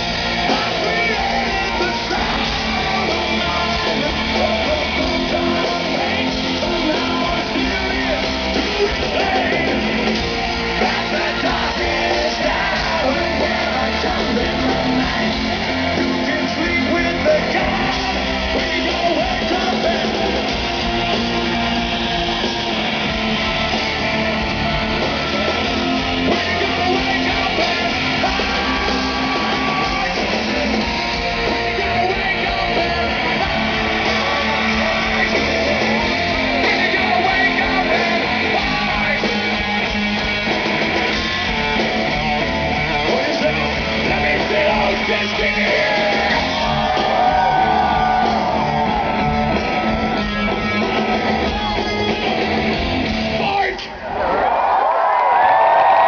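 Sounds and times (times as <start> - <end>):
hard rock music with electric guitars: 0.0 - 54.1.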